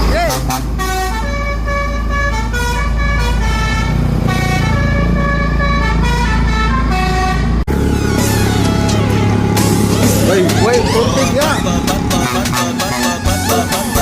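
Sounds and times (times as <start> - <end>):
truck engine rumble: 0.0 - 14.0
truck musical horn: 0.0 - 14.0.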